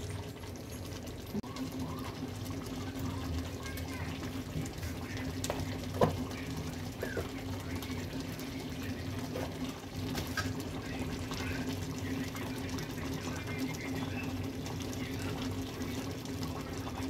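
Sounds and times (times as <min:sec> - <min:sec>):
curry bubbling and popping: 0:00.0 - 0:17.0.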